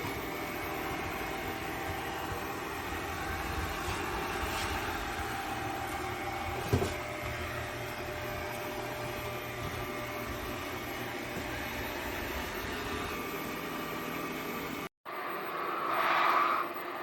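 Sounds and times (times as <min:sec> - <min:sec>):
robot vacuum cleaner humming: 0:00.0 - 0:17.0.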